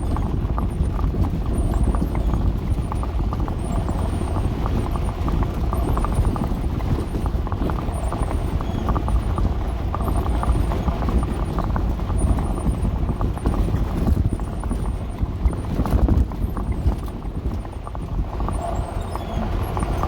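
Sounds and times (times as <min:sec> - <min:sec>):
van driving low rumble: 0:00.0 - 0:20.0.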